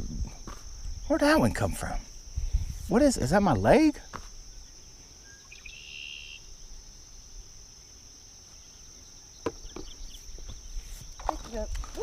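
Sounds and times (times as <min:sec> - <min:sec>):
insect chorus buzzing: 0:00.0 - 0:12.0
short insect chirp: 0:00.0 - 0:12.0.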